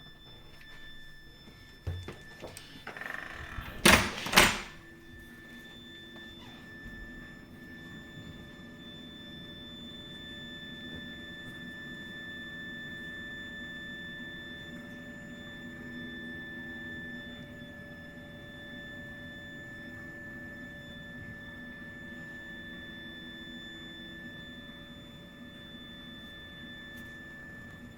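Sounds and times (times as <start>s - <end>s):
shrill high-pitched whine: 0.0s - 27.9s.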